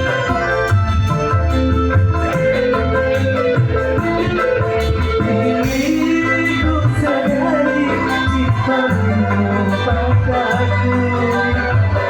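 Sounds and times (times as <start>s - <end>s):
band playing instrumental: 0.0s - 12.0s
bass: 0.0s - 12.0s
guitar melody: 0.0s - 12.0s.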